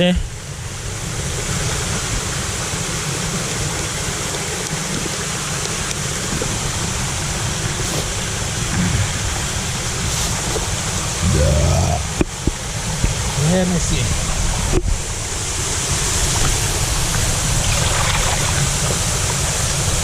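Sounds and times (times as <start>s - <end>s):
rush of falling water: 0.0s - 20.0s.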